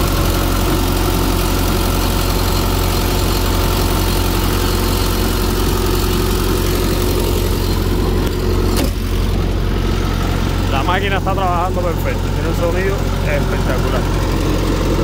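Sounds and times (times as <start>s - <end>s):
small diesel engine running: 0.0s - 15.0s.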